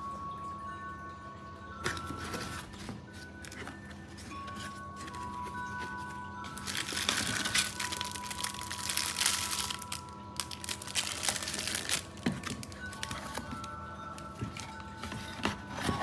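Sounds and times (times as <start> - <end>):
plastic bags crinkling: 1.9 - 16.0.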